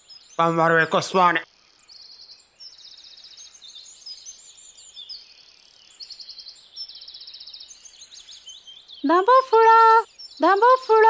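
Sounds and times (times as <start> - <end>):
birds chirping with fast trills: 0.0 - 11.0.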